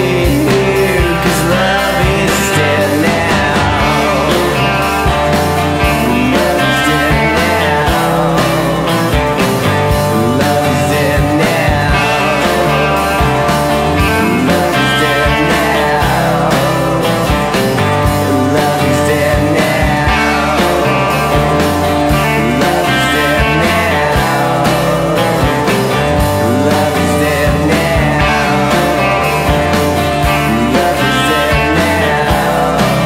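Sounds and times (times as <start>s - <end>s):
background music with drumbeat: 0.0s - 33.0s.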